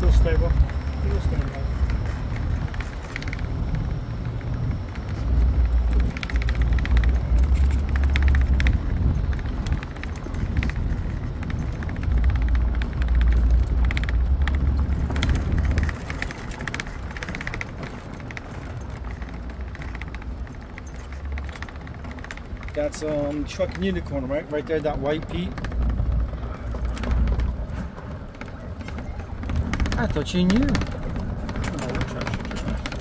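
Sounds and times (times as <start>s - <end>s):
truck rumbling: 0.0s - 33.0s.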